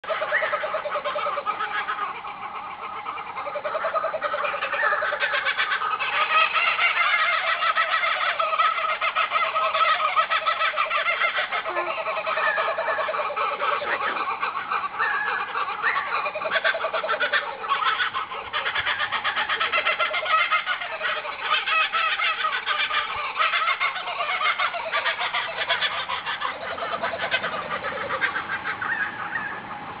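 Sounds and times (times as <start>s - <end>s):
flock of birds calling: 0.0s - 30.0s
low drawn-out bird calls: 0.0s - 30.0s.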